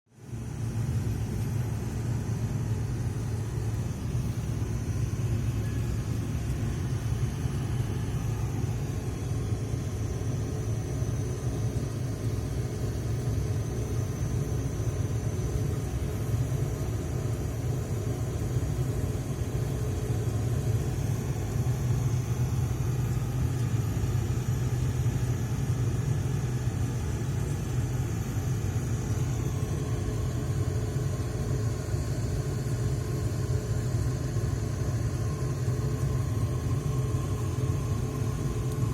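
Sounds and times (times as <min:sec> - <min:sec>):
machinery engines rumbling: 0:01.2 - 0:38.9.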